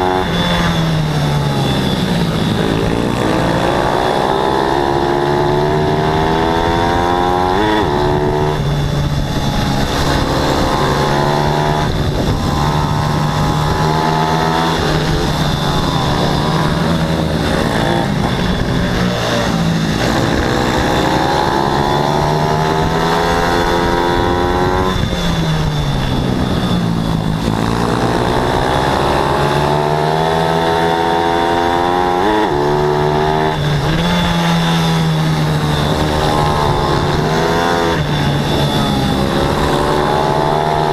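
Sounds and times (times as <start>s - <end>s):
pit bike engines revving: 0.0s - 40.9s.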